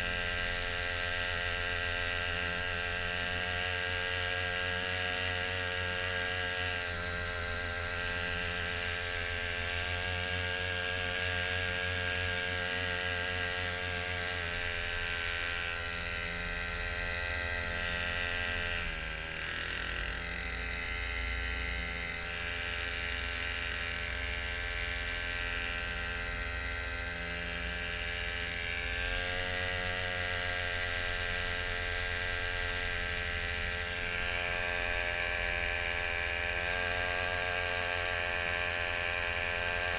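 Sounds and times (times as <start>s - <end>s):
boat motor running: 0.0s - 39.9s.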